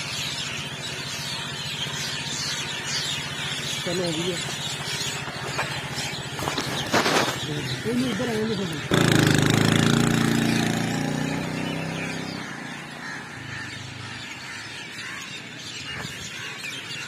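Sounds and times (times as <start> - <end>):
motorcycle engine passing: 0.0 - 15.0.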